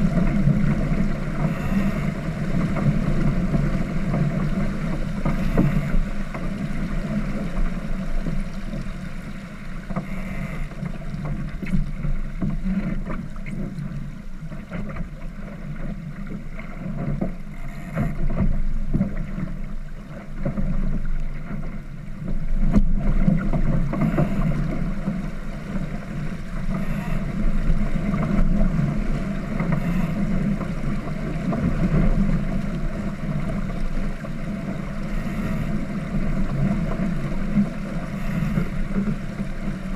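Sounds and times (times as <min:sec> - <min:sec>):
water noise: 0:00.0 - 0:39.9
wind: 0:00.0 - 0:39.9.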